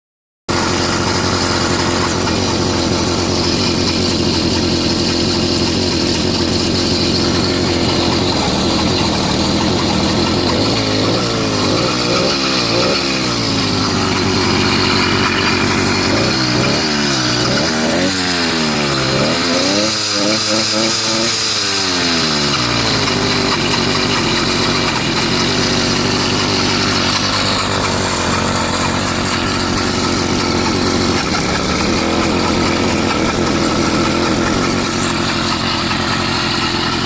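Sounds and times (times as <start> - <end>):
two-stroke engine revving: 0.5 - 37.0.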